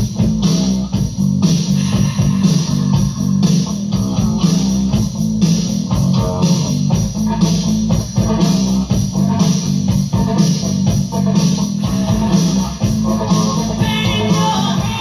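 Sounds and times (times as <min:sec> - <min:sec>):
rock music with guitars: 0:00.0 - 0:15.0.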